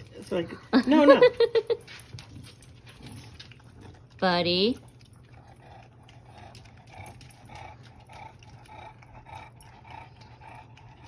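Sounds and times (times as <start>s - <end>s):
dog licking wet laps: 0.0s - 11.0s.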